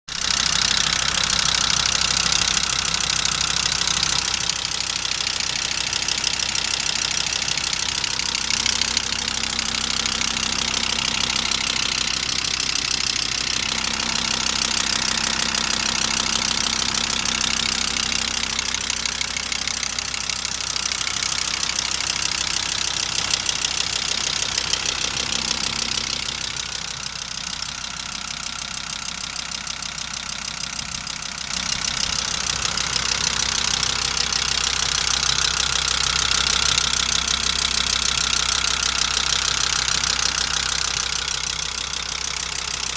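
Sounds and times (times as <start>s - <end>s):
engine idling with knock: 0.1s - 42.9s.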